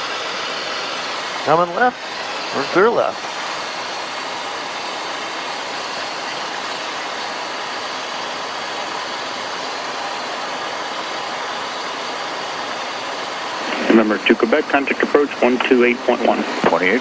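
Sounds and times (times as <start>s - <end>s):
jet engine and airflow noise: 0.0s - 17.0s.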